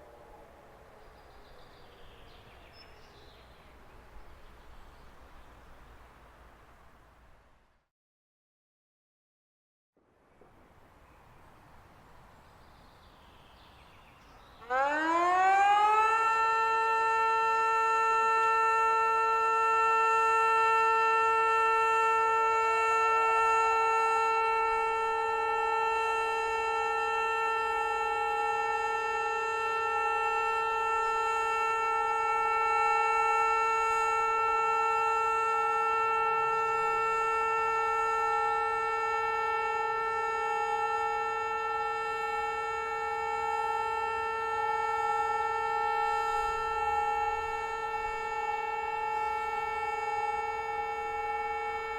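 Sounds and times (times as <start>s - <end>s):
siren steady long tone: 0.0s - 5.2s, 13.4s - 51.9s.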